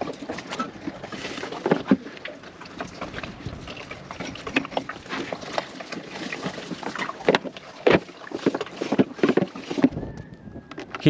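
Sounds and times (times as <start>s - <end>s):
sailboat rigging knocks and clicks: 0.0s - 11.0s.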